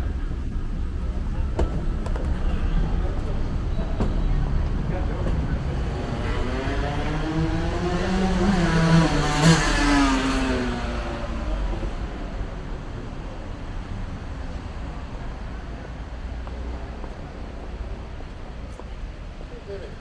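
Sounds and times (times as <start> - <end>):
low traffic noise: 0.0 - 20.0.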